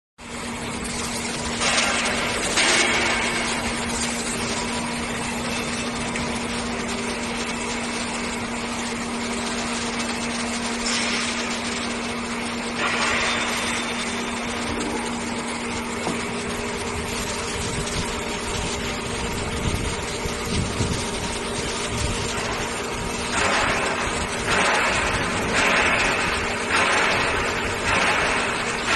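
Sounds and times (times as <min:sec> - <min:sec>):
surface grinder running: 0:00.3 - 0:28.9.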